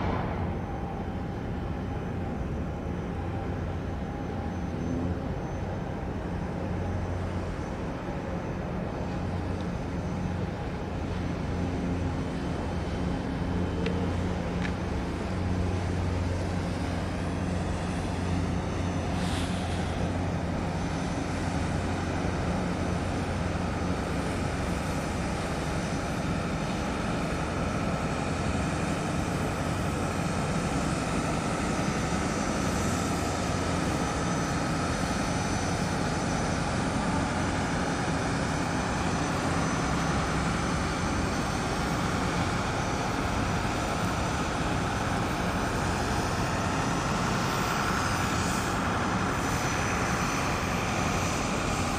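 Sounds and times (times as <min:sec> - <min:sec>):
faint high whine: 0:00.0 - 0:51.9
low engine drone: 0:00.0 - 0:51.9.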